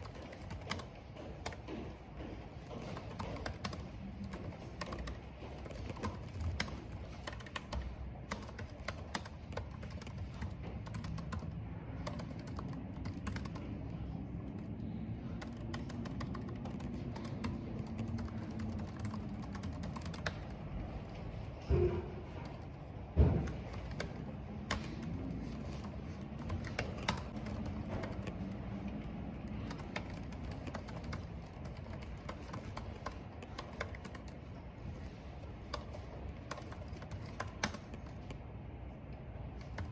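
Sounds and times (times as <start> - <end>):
keyboard typing clicks: 0.0 - 2.0, 2.6 - 38.4, 39.5 - 39.9.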